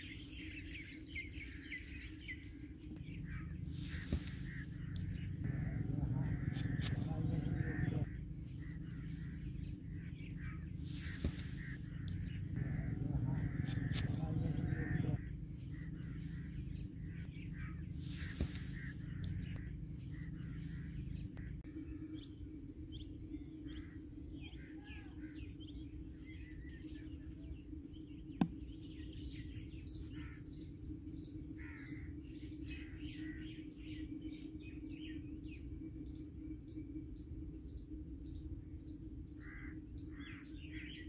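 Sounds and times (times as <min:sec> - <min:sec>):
birds chirping and calling: 0:00.0 - 0:41.0
steady low hum: 0:00.0 - 0:41.0.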